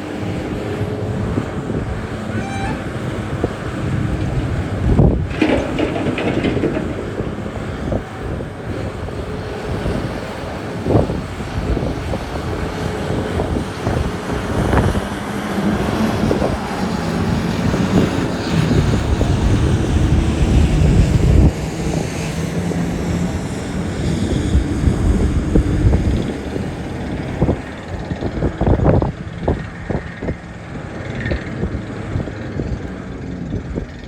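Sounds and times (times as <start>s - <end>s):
heavy diesel engines running: 0.0s - 34.0s
wind buffeting microphone: 0.0s - 34.0s.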